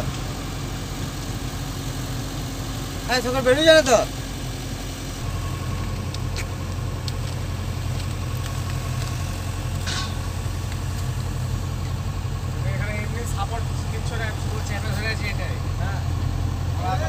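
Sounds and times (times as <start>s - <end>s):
diesel engine running: 0.0s - 17.0s
faint steady whine: 0.0s - 17.0s.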